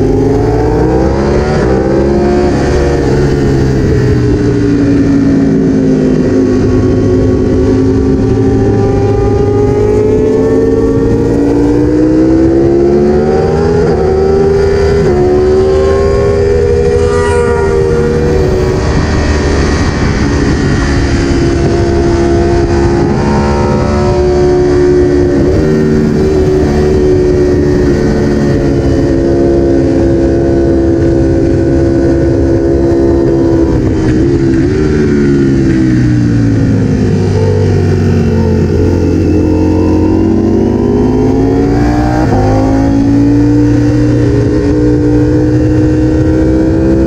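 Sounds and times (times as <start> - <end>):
motorcycle engine at high revs: 0.0 - 47.0.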